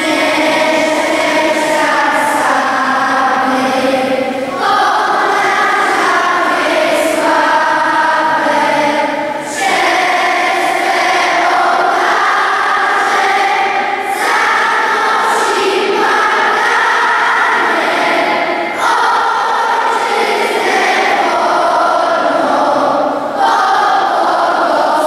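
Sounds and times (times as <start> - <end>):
children's choir singing: 0.0 - 25.0.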